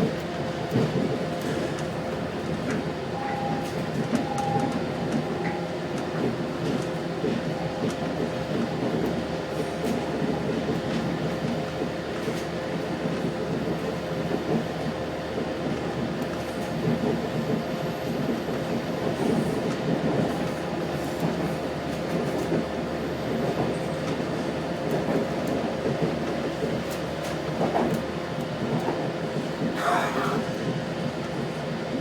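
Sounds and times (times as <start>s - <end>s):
train cabin rumble: 0.0s - 32.0s.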